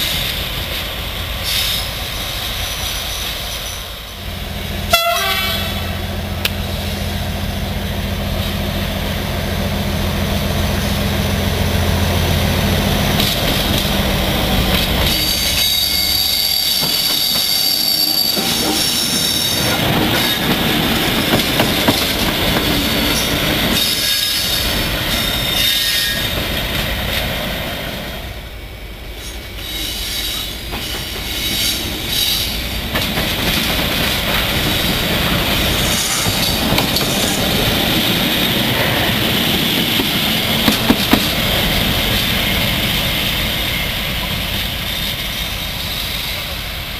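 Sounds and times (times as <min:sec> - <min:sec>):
wheel noise on rails: 0:00.0 - 0:46.9
diesel locomotive engine running: 0:04.0 - 0:46.9.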